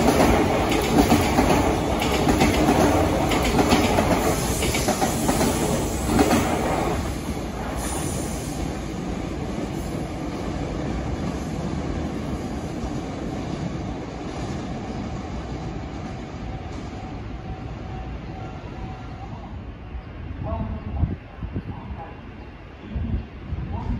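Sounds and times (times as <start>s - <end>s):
freight train rumbling on rails: 0.0s - 23.9s.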